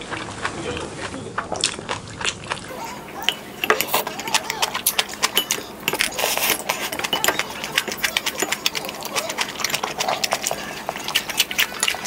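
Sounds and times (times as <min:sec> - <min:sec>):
wet chewing and mouth smacks: 0:00.0 - 0:12.0.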